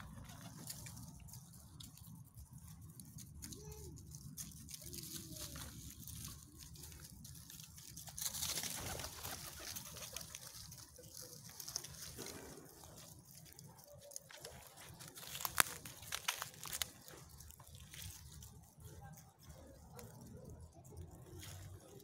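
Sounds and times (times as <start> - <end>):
rustling in dry leaves and twigs: 0.0 - 22.0.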